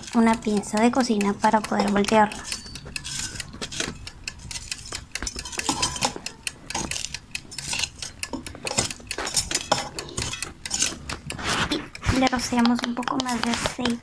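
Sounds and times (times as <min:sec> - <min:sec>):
tongs scraping metal basket: 0:00.0 - 0:14.0.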